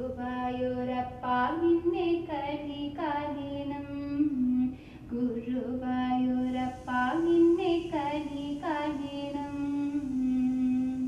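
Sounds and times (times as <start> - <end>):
woman singing devotional song: 0.0 - 11.0.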